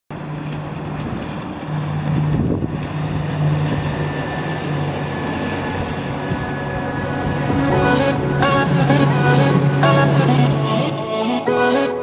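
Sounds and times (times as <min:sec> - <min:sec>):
outboard motor running: 0:00.1 - 0:11.0
wind noise on microphone: 0:00.6 - 0:10.3.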